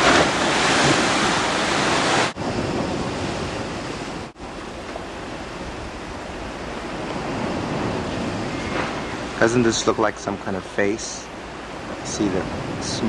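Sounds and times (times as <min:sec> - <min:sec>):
wind on microphone: 0:00.0 - 0:09.7, 0:11.5 - 0:13.0
ocean surf on shore: 0:00.0 - 0:13.0.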